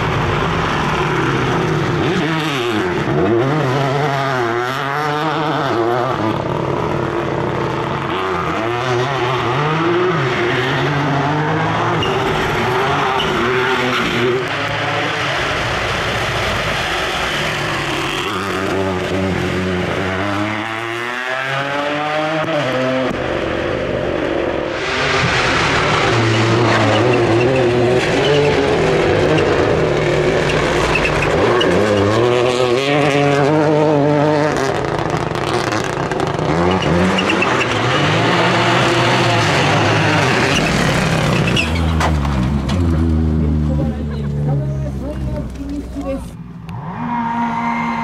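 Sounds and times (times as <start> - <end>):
rally car engine revving: 0.0 - 48.0.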